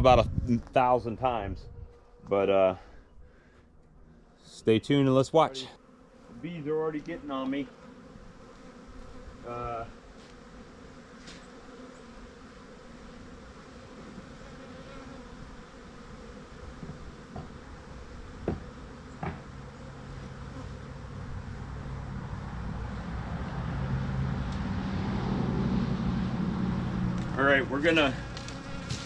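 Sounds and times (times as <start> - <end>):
bees buzzing: 1.7 - 29.0.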